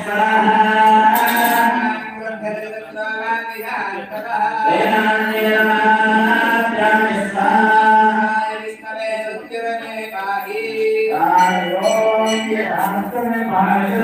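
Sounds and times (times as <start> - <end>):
men chanting devotional song: 0.0 - 14.0.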